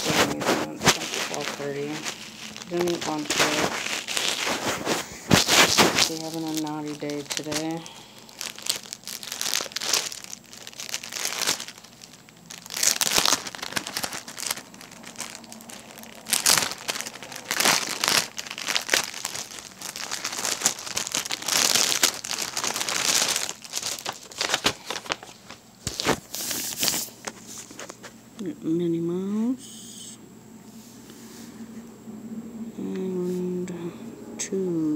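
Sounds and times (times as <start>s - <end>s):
plastic bags crinkling: 0.0s - 28.3s.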